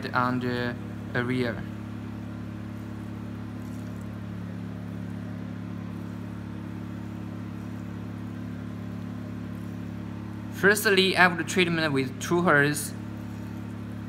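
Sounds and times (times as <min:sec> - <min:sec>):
cooling unit humming: 0:00.0 - 0:14.0.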